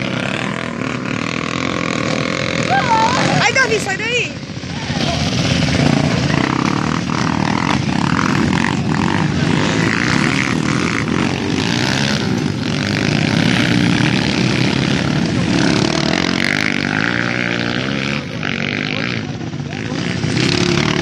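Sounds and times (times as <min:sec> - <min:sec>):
motorcycle engines passing: 0:00.0 - 0:21.0.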